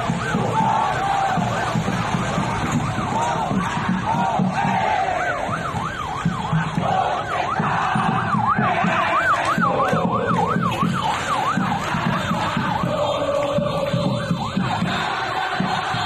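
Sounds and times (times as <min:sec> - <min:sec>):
siren warbling fast: 0:00.0 - 0:14.9.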